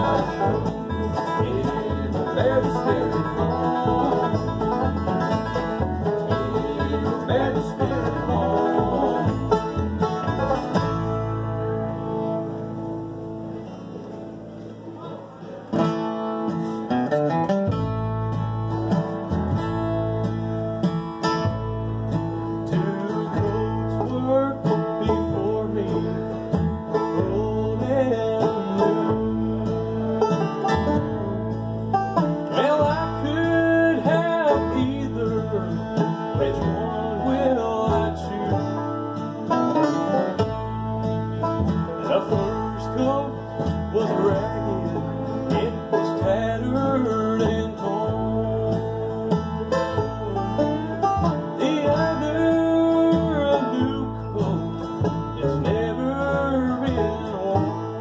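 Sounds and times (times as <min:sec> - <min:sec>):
upright bass keeping a beat: 0:00.0 - 0:14.9, 0:15.7 - 0:58.0
acoustic guitar: 0:00.0 - 0:58.0
banjo: 0:00.0 - 0:58.0
fiddle: 0:00.0 - 0:58.0.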